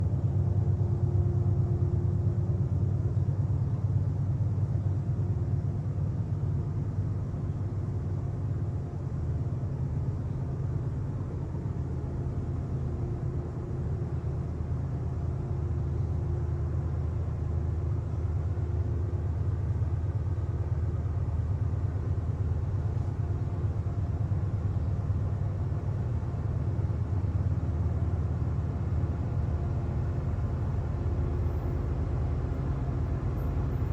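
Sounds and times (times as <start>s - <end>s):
diesel locomotive engine rumble: 0.0s - 33.9s.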